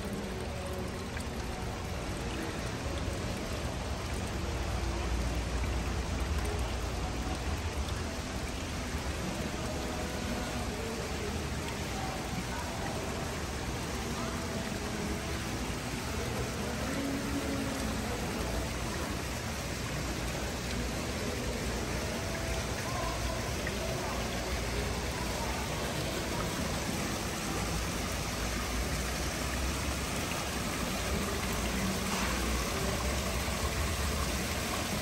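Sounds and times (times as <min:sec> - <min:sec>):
falling water rushing: 0:00.0 - 0:35.0.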